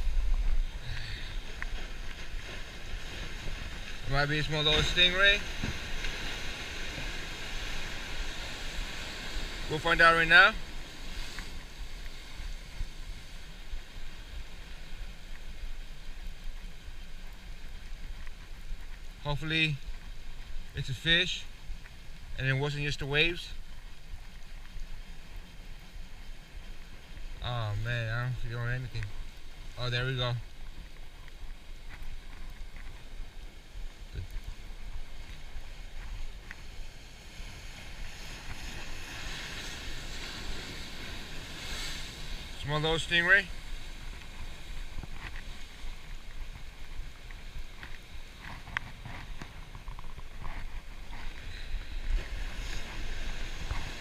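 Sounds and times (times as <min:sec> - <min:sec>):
wind rumble on microphone: 0:00.0 - 0:09.7, 0:10.3 - 0:54.0
surf breaking: 0:00.0 - 0:16.0, 0:26.6 - 0:54.0.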